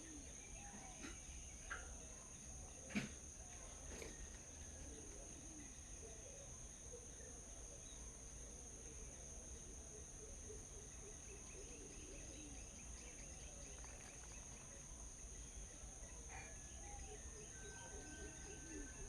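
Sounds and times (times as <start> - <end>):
faint bird chirps: 0.0 - 8.3, 9.0 - 19.0
crickets droning: 0.0 - 19.0.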